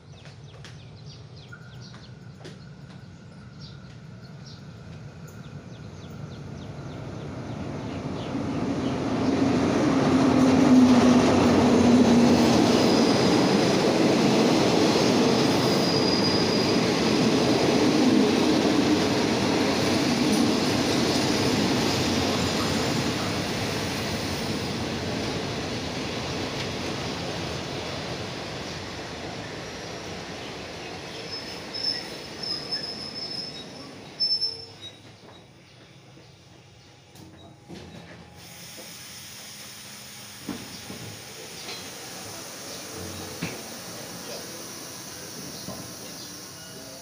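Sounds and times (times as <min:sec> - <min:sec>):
passenger train passing: 0:00.0 - 0:47.0.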